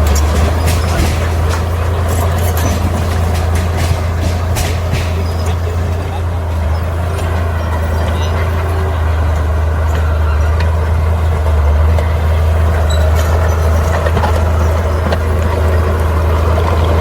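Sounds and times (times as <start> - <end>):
bulldozer diesel engine drone: 0.0 - 17.0.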